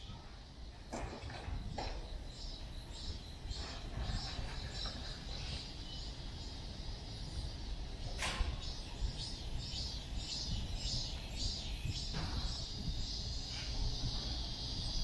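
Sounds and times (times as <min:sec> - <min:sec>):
low city background rumble: 0:00.0 - 0:15.0.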